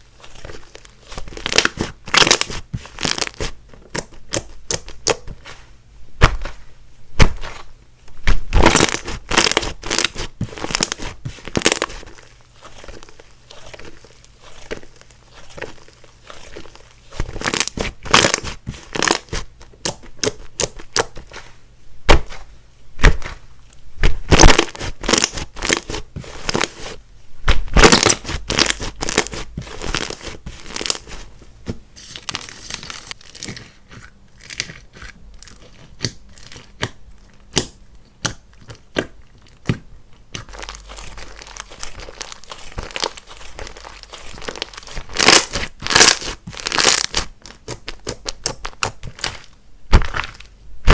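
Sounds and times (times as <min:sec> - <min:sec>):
slime squished by hand: 0:00.2 - 0:05.6, 0:07.2 - 0:21.5, 0:22.1 - 0:50.9.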